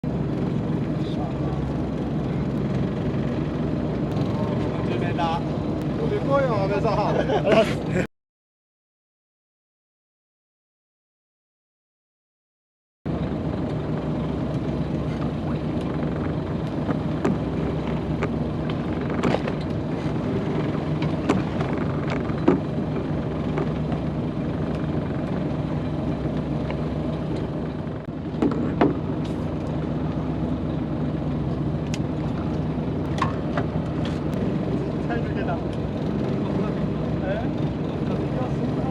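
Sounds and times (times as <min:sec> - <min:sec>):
boat engine droning: 0:00.0 - 0:08.1, 0:13.1 - 0:38.9.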